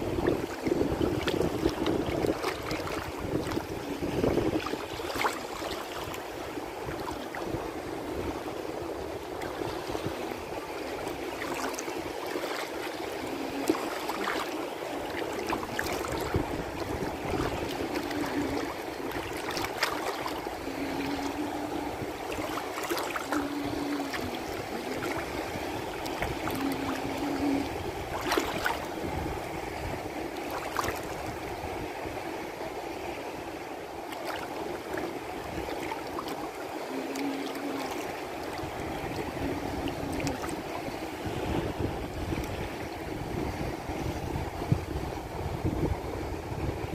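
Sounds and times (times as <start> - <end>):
small waves lapping: 0.0 - 46.9.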